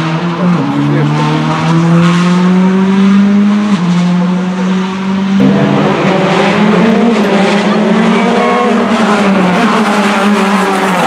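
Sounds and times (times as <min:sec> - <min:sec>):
rally car engine revving high: 0:00.0 - 0:11.0.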